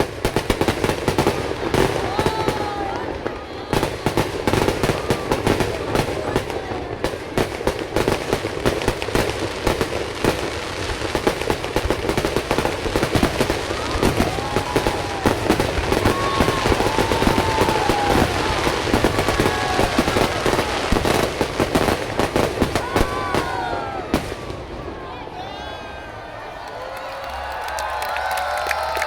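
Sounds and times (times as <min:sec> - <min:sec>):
fireworks bangs and crackle: 0:00.0 - 0:26.5
rising-and-falling firework tones: 0:00.0 - 0:27.8.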